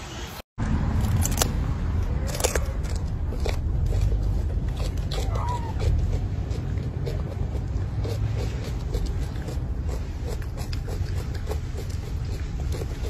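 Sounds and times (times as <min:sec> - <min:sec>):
sharp clicks and crunches: 0:00.9 - 0:13.0.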